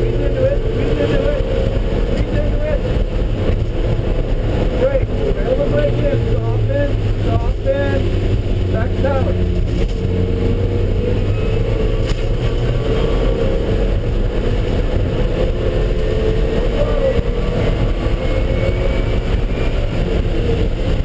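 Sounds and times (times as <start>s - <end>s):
car engine running hard: 0.0s - 21.0s
road and wind noise: 0.0s - 21.0s.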